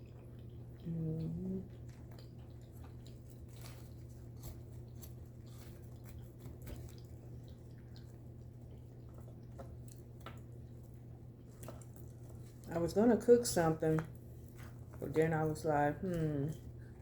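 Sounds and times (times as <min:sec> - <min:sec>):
person chewing food: 0:00.0 - 0:12.9, 0:14.0 - 0:17.0
steady low hum: 0:00.0 - 0:17.0.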